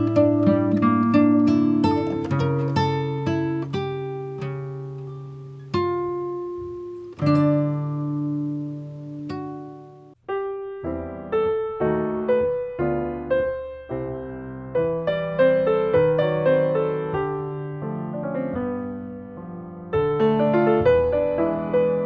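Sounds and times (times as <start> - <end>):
plucked guitar notes: 0.0 - 22.0.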